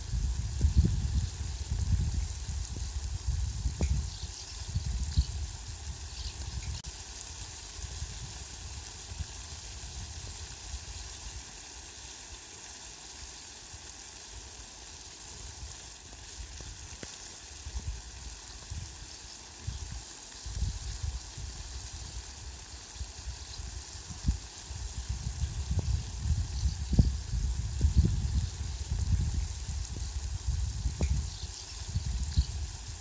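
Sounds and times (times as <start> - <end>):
rainfall hiss: 0.0 - 33.0.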